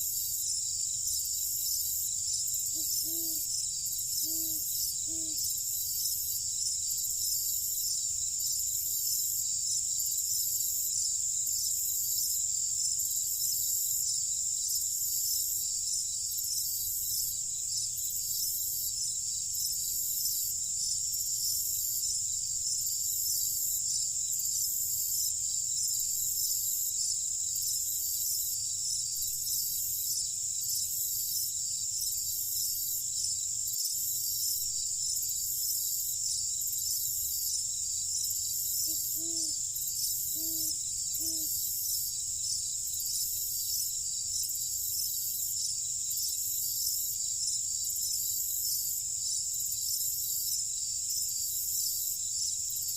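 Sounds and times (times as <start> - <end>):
pulsing insect chirps: 0.0 - 10.8, 19.5 - 52.9
crickets trilling: 0.0 - 52.9.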